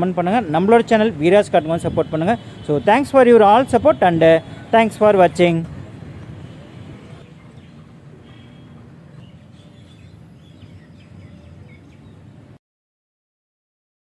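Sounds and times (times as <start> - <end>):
steady background noise: 0.0 - 12.6.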